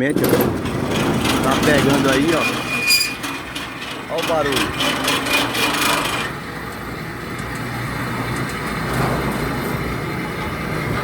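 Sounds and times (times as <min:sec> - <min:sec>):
garage gate motor rumbling: 0:00.0 - 0:11.0.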